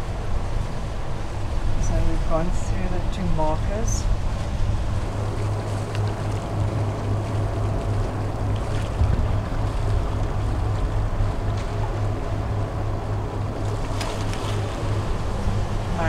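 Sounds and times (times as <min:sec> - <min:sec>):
boat engine droning: 0:00.0 - 0:16.0
water rushing: 0:00.0 - 0:16.0
wind: 0:00.0 - 0:16.0.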